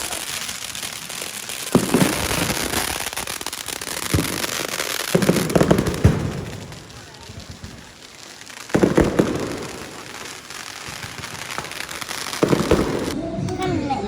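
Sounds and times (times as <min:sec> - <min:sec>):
loud firework bangs: 0:00.0 - 0:13.2
firecrackers crackling: 0:00.0 - 0:13.6.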